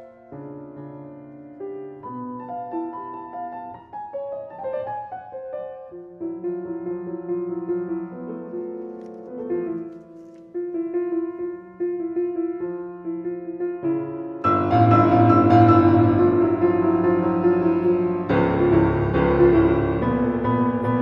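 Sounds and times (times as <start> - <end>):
piano playing: 0.0 - 21.0.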